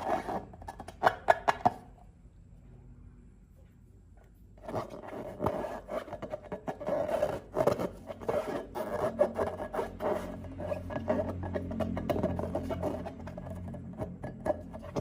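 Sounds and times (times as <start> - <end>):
rubbing and scraping handling noises: 0.0 - 1.9, 3.6 - 15.0.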